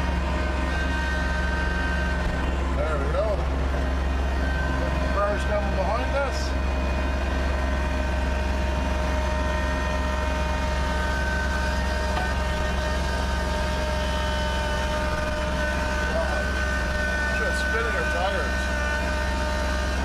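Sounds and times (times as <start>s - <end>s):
high whine: 0.0s - 20.0s
tractor diesel engine running: 0.0s - 20.0s.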